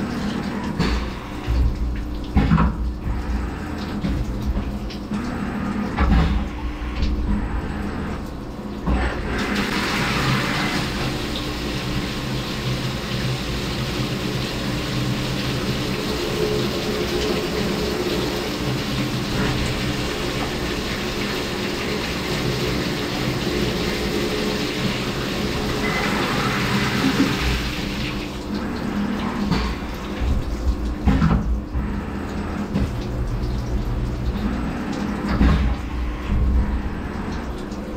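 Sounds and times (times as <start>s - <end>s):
coolant splashing and hissing: 0.0s - 37.9s
milling machine spindle hum: 0.0s - 37.9s.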